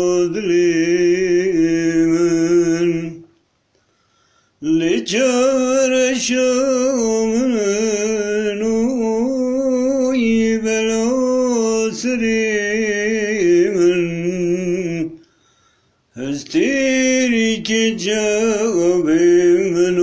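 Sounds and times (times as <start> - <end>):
man singing unaccompanied: 0.0 - 3.4, 4.6 - 15.3, 16.1 - 20.0.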